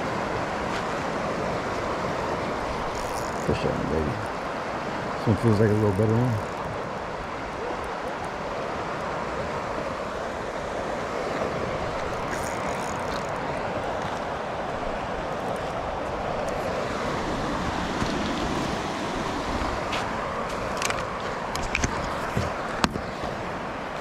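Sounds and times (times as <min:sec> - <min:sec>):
fast-flowing water: 0:00.0 - 0:24.0.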